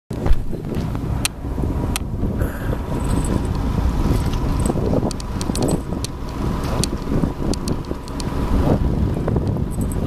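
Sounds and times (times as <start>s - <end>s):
wind on microphone: 0.1s - 10.0s.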